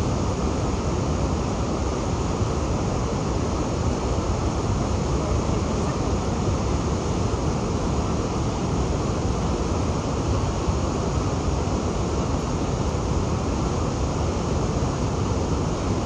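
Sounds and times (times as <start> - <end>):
fast-flowing river water rushing: 0.0 - 16.0.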